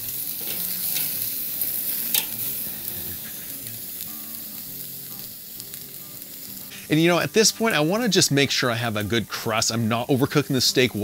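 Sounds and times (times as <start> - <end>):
steaks sizzling on grill: 0.0 - 11.0.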